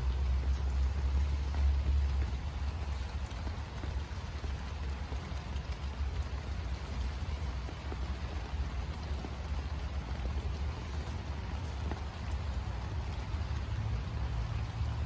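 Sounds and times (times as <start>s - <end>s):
rain on a canopy: 0.0s - 15.0s.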